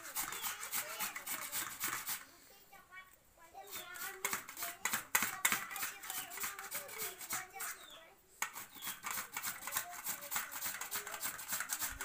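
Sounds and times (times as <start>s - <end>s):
potato rasping on metal grater: 0.0s - 2.2s, 3.7s - 12.0s
voices talking: 0.0s - 11.4s.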